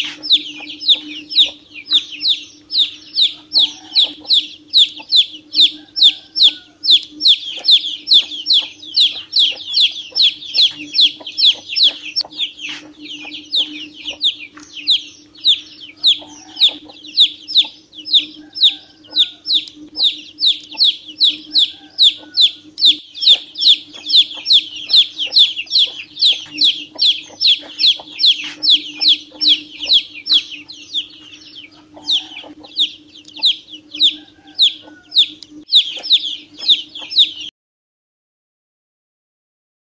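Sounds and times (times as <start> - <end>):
ducklings peeping: 0.0 - 37.5
steady low hum: 0.0 - 37.5.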